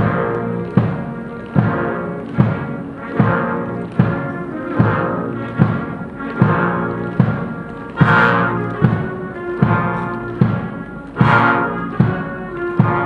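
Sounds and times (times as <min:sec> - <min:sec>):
brass band funeral march: 0:00.0 - 0:13.0
heavy drum beat: 0:00.0 - 0:13.0.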